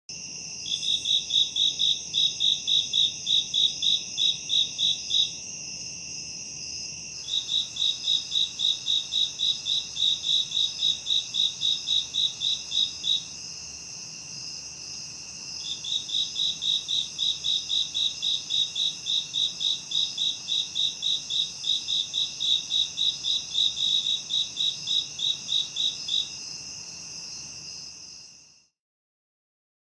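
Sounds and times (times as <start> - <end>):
insects trilling: 0.1 - 28.5
cricket chirps: 0.1 - 28.8.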